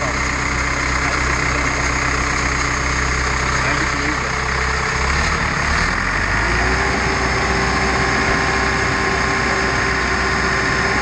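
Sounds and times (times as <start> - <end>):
diesel engine running: 0.0 - 11.0
steady whine: 0.0 - 11.0.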